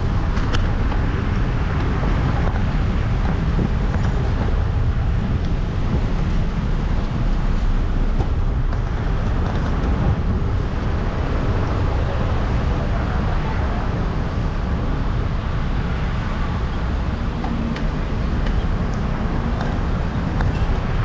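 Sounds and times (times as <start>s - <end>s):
rushing vehicle and wind noise: 0.0s - 21.0s.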